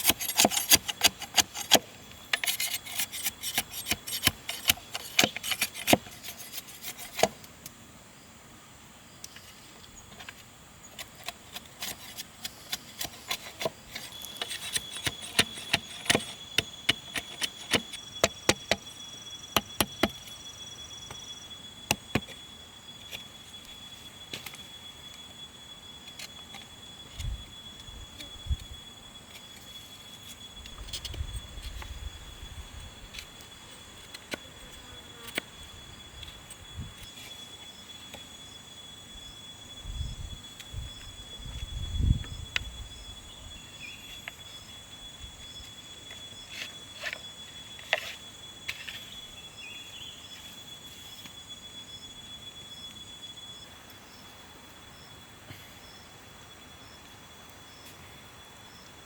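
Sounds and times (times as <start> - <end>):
high-pitched insect drone: 0.0 - 7.5, 9.0 - 59.0
faint rhythmic insect ticking: 0.0 - 59.0.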